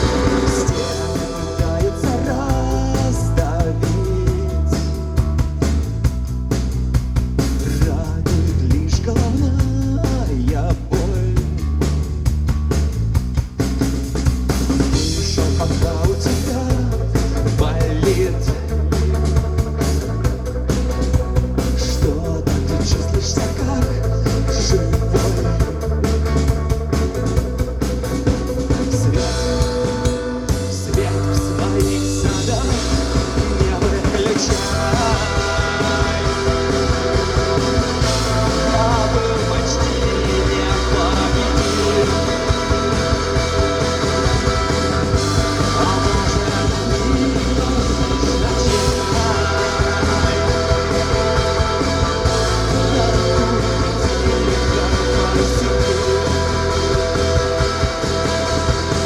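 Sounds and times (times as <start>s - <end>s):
drum kit beat: 0.0s - 59.0s
live rock band playing: 0.0s - 59.0s.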